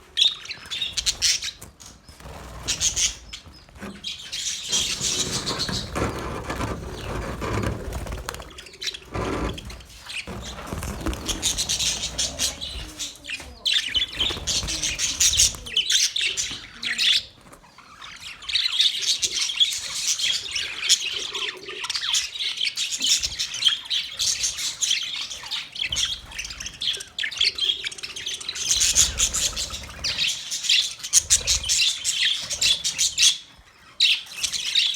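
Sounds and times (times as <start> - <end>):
budgerigars chirping and warbling: 0.1 - 34.9.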